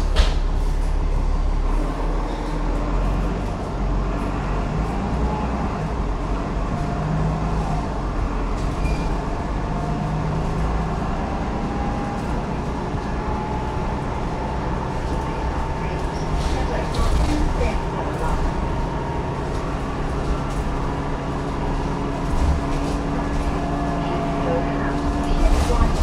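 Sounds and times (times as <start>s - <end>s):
bus engine rumble: 0.0s - 26.0s.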